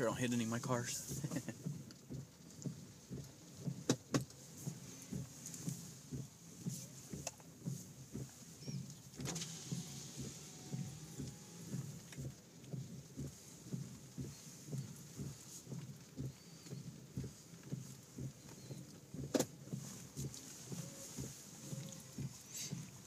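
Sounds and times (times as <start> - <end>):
footsteps walking: 1.0 - 23.0.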